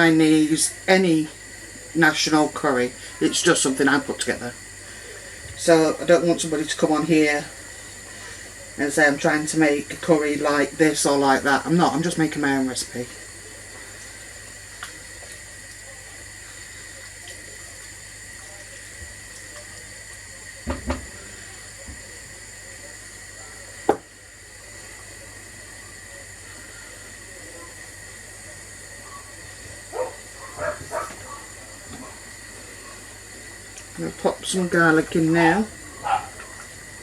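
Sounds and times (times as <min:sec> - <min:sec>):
curry simmering hiss: 0:00.0 - 0:37.0.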